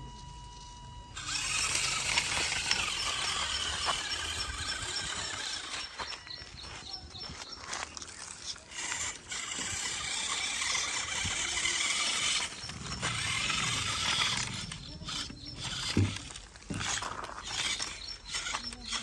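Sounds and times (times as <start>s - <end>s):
toy motor and gears whirring: 0.0s - 19.0s.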